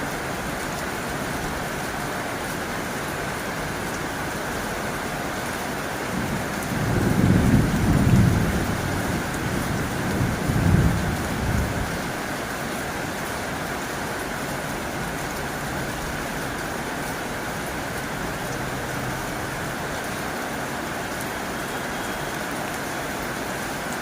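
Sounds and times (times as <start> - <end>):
heavy rain on a tin roof: 0.0 - 24.0.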